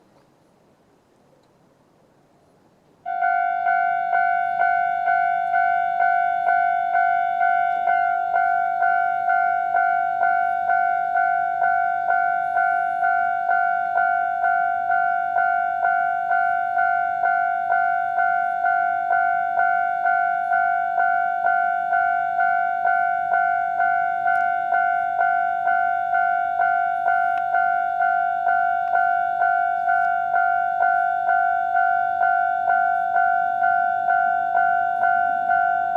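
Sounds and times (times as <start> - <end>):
level crossing warning bell: 3.0 - 35.9.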